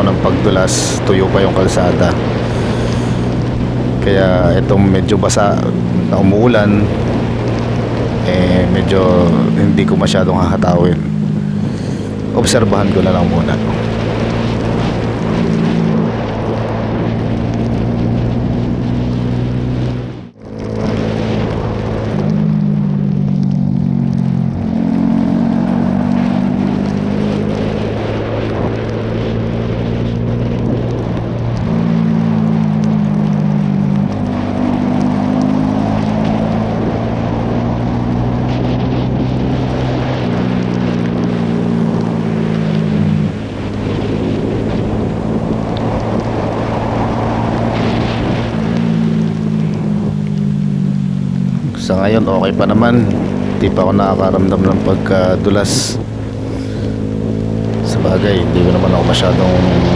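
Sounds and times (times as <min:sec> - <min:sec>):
motorcycle engine revving: 0:00.0 - 0:59.9
wind noise on microphone: 0:00.0 - 0:59.9.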